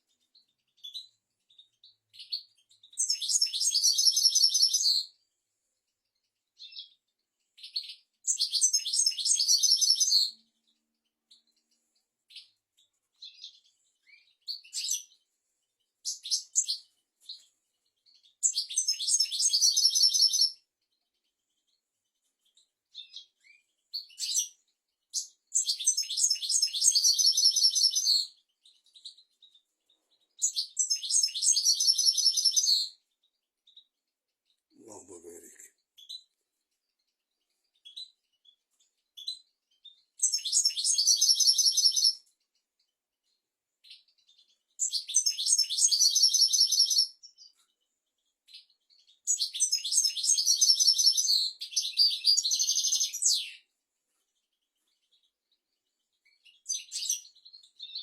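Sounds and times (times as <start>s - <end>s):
finch twittering song: 0.0s - 5.2s, 6.0s - 58.0s.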